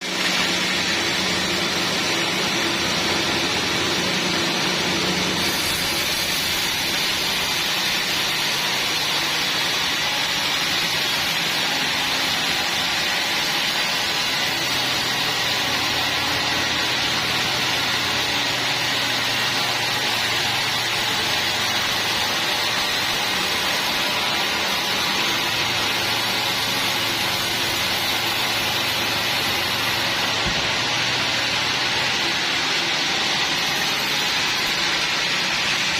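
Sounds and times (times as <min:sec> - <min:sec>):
continuous machinery hissing: 0:00.0 - 0:35.9.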